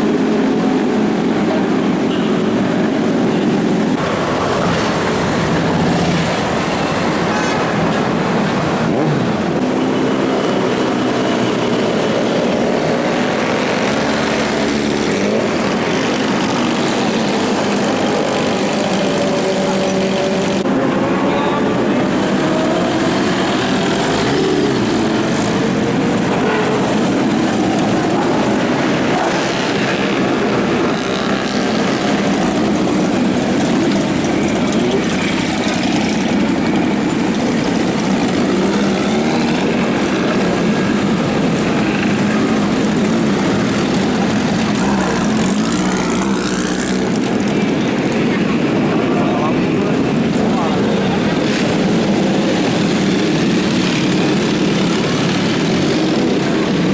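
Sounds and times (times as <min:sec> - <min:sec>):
motorcycle engines revving: 0:00.0 - 0:56.9
traffic rumble: 0:00.0 - 0:56.9.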